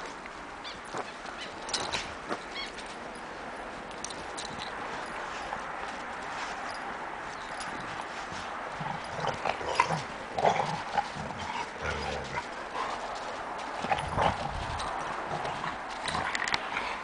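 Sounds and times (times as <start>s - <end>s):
paws crunching in snow: 0.0s - 17.0s.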